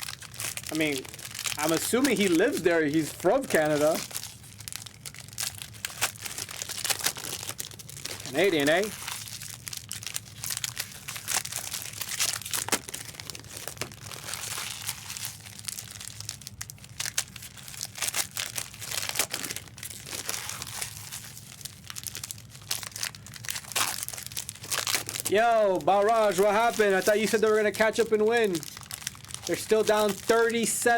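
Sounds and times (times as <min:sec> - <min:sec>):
card pack wrappers crinkling: 0:00.0 - 0:30.9.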